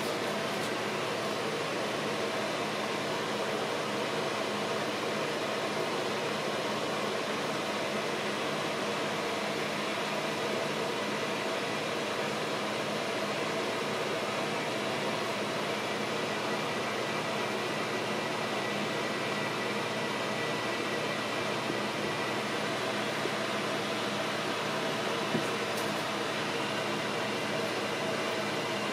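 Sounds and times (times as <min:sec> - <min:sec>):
steady hum and hiss: 0:00.0 - 0:28.9.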